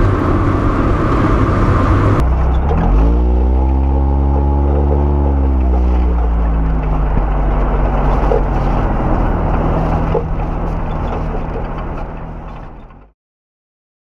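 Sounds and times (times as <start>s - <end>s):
car engine running: 0.0s - 13.1s
road and tyre noise: 0.0s - 13.2s.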